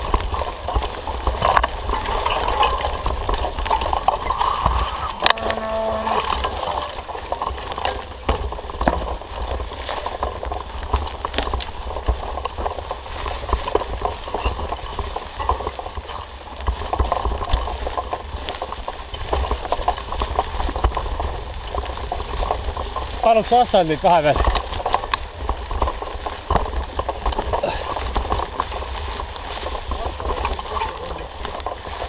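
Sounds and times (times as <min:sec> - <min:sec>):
mountain bike rattling on dirt: 0:00.0 - 0:32.0
wind rumble on microphone: 0:00.0 - 0:32.0.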